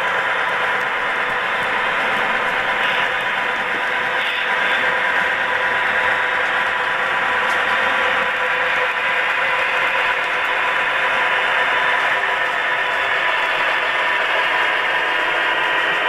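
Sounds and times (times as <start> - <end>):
model train motor whirring: 0.0 - 16.0
wheels rattling on rails: 0.0 - 16.0.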